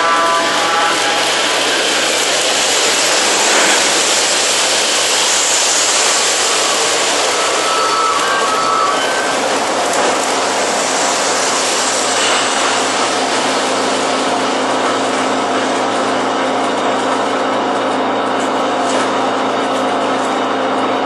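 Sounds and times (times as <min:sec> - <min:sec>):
model trains running on metal track: 0:00.0 - 0:21.0.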